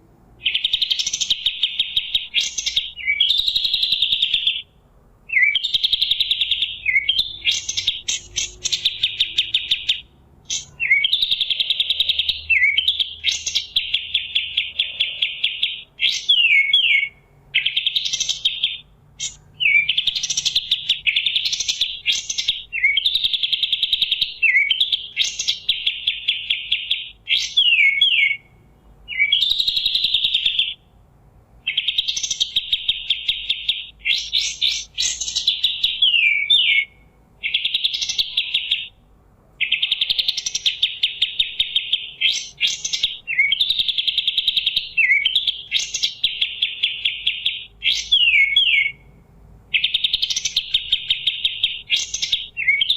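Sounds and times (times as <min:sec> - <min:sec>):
bird singing high trills: 0:00.4 - 0:30.9, 0:31.6 - 0:39.0, 0:39.6 - 0:52.9.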